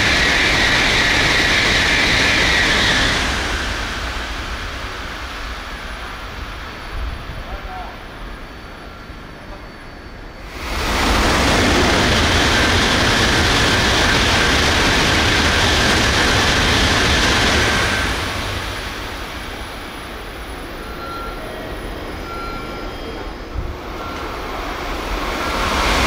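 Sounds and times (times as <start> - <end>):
high-speed train passing: 0.0 - 26.0
low train rumble: 0.0 - 26.0.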